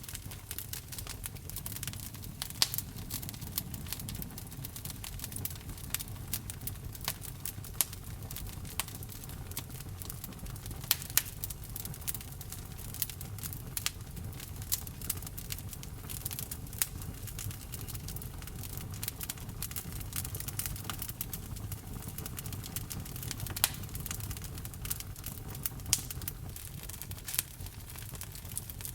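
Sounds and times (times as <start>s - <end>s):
low rumble of fire: 0.0s - 28.9s
wood crackling and popping: 0.0s - 28.9s.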